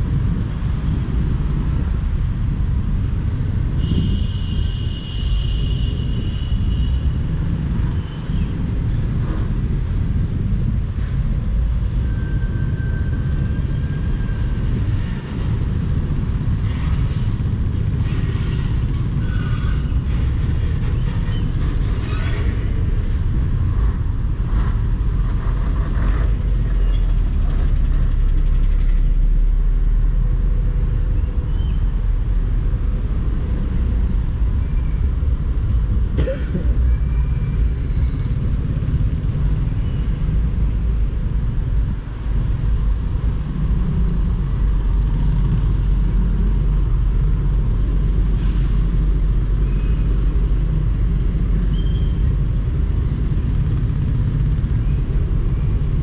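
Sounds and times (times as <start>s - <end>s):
trucks driving: 5.9s - 56.0s.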